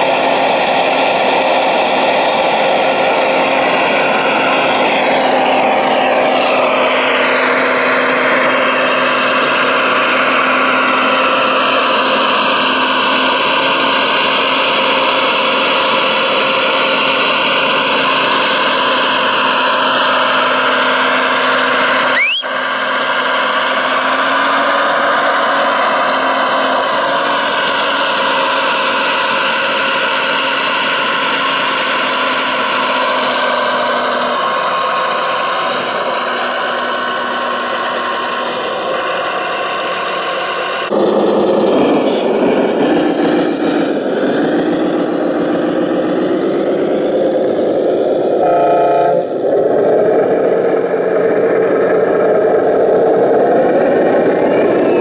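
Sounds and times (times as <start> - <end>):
hydraulic pump whine: 0.0 - 23.2, 25.6 - 55.0.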